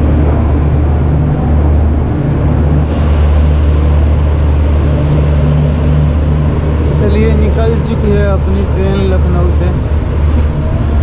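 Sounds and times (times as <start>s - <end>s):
rush of noise: 0.0s - 11.0s
train rumble: 0.0s - 11.0s.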